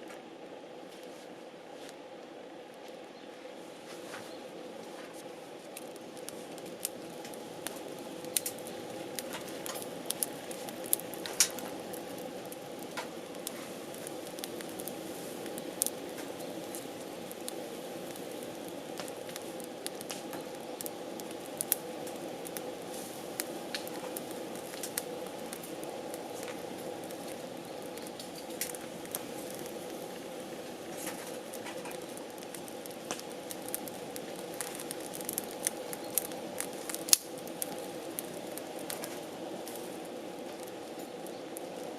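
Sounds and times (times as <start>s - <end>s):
campfire crackling and popping: 3.9s - 41.9s.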